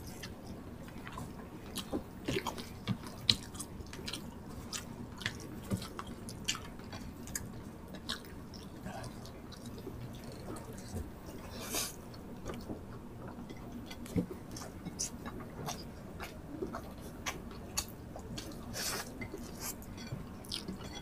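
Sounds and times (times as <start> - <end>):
people chewing with mouth smacks: 0.0 - 21.0.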